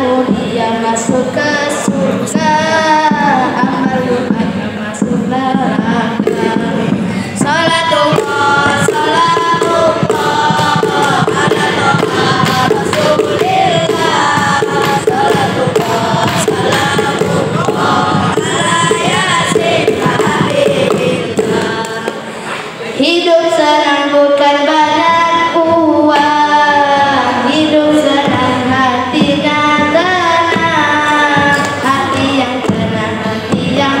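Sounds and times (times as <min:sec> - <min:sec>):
boys singing into microphones: 0:00.0 - 0:34.0.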